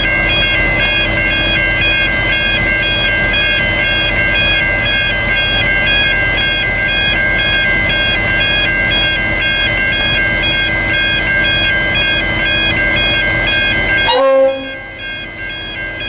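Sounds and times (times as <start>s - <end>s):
diesel locomotive idling: 0.0s - 16.0s
level crossing warning bell: 0.0s - 16.0s.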